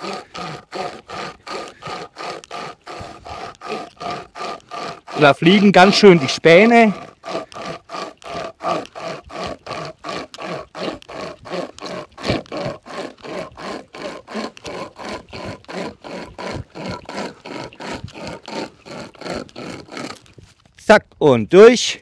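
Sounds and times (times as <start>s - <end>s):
hand chainsaw rasping through log: 0.0s - 20.6s.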